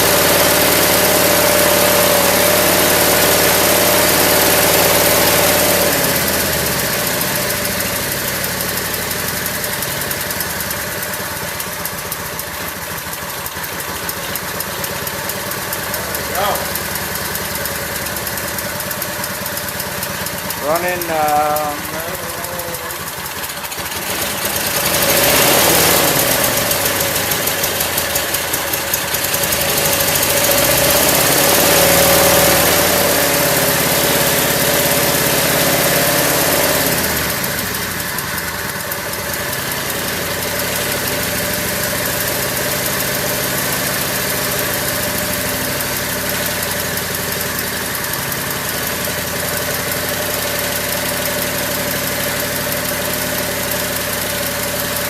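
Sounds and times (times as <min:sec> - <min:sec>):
small gasoline engine running: 0:00.0 - 0:55.0.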